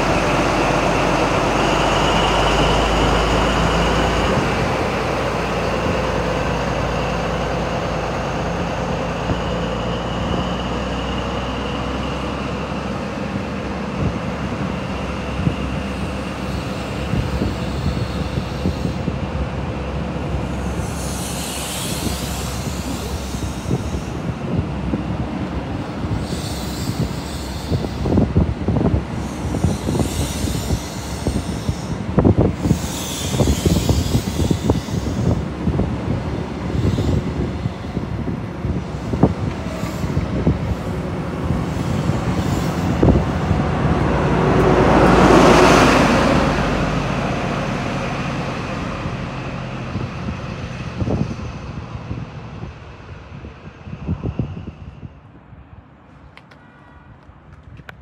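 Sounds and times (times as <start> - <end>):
diesel engine: 0.0 - 56.1.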